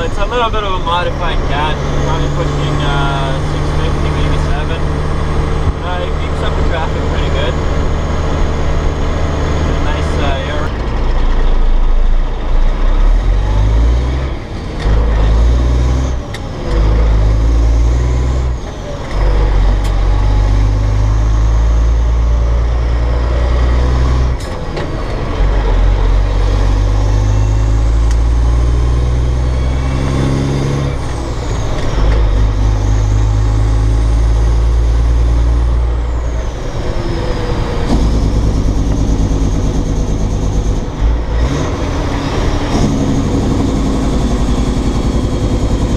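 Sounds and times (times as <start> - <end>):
truck diesel engine shifting gears: 0.0 - 45.9.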